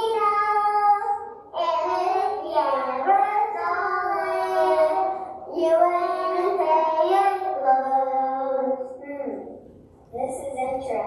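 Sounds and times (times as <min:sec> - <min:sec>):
child singing: 0:00.0 - 0:09.4.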